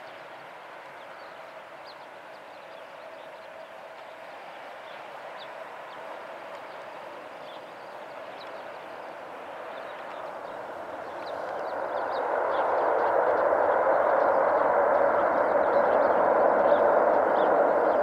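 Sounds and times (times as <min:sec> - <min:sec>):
jet engines roaring: 0:01.7 - 0:18.0.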